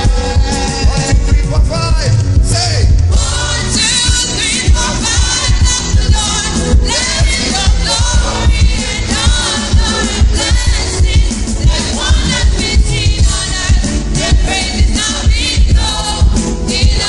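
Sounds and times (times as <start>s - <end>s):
group singing gospel: 0.0s - 1.8s, 2.5s - 17.0s
band playing: 0.0s - 17.0s
steady drum beat: 0.0s - 17.0s.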